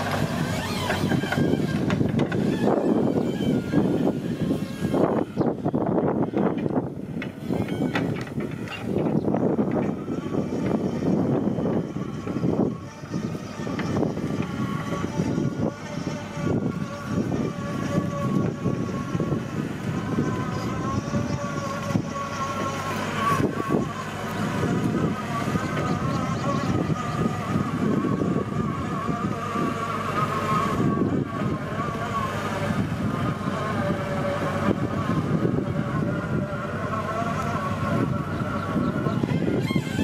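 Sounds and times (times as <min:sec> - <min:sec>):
excavator diesel engine running: 0:00.0 - 0:40.0
wavering high whine: 0:00.0 - 0:40.0.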